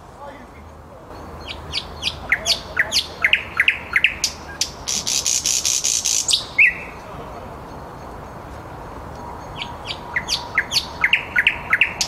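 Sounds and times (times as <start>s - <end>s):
nightingale singing: 0.2s - 12.0s.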